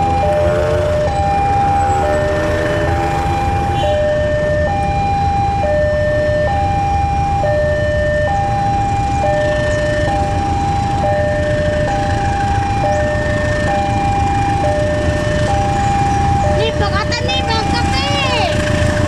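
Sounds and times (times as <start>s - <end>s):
diesel locomotive rumble: 0.0s - 19.0s
two-tone crossing alarm: 0.0s - 19.0s.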